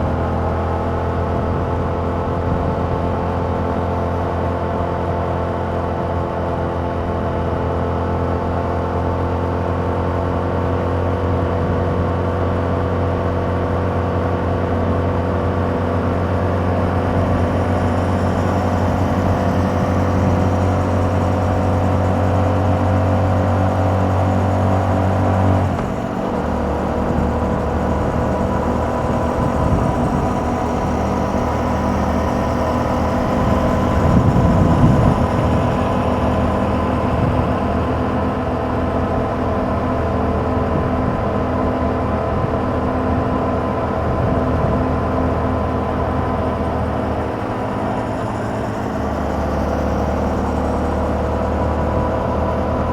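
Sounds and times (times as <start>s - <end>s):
motorcycle engine while riding: 0.0s - 52.9s.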